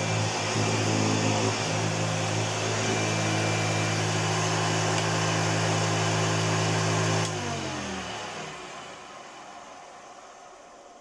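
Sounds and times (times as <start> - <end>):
vacuum cleaner motor running: 0.0 - 11.0.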